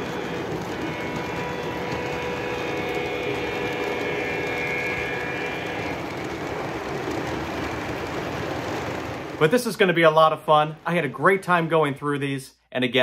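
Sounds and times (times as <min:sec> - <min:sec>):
steady tones: 0:00.0 - 0:12.0
model train wheels rumbling on track: 0:00.0 - 0:13.0.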